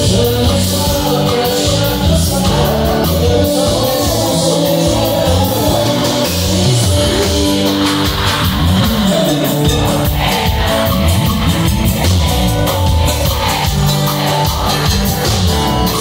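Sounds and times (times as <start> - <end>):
live band music: 0.0 - 16.0
man singing: 0.0 - 16.0.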